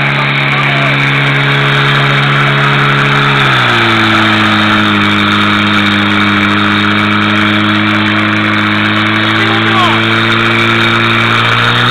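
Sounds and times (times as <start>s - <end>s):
pump engine running: 0.0s - 11.9s.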